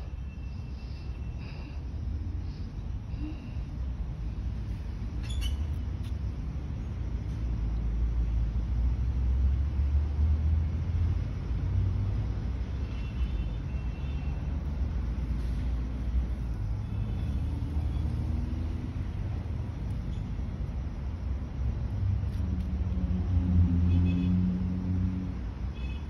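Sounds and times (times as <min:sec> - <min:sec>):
low outdoor rumble: 0:00.0 - 0:25.8.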